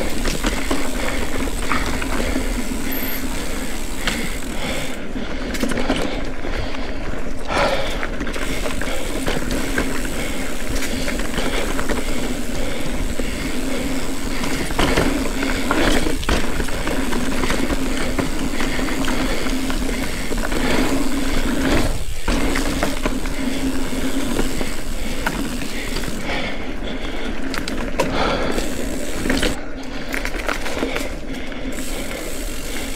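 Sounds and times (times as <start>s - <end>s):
bike chain and frame rattling: 0.0s - 32.9s
bike tyres on dirt and rock: 0.0s - 32.9s.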